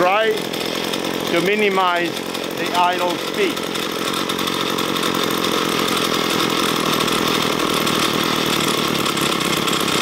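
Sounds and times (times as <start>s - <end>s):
string trimmer engine idling: 0.0s - 10.0s.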